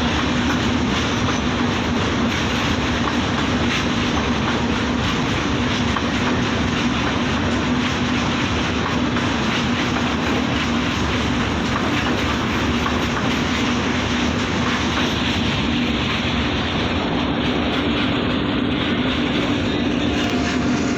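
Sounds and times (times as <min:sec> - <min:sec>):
train rumbling past: 0:00.0 - 0:20.9.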